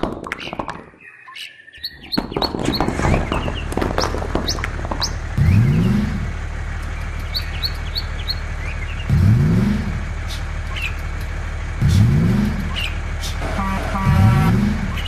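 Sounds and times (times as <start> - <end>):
birds chirping: 0.0 - 15.0
truck engine revving: 2.1 - 15.0.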